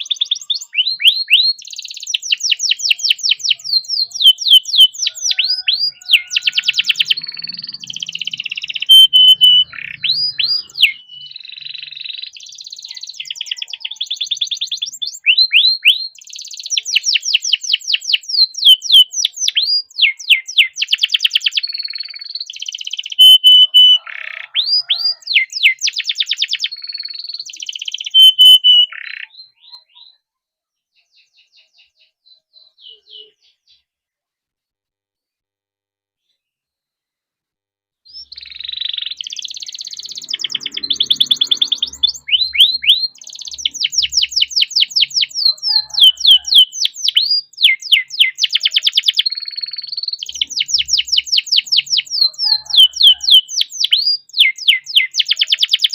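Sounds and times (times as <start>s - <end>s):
canary singing: 0.0s - 30.3s, 30.9s - 33.9s, 38.1s - 55.9s.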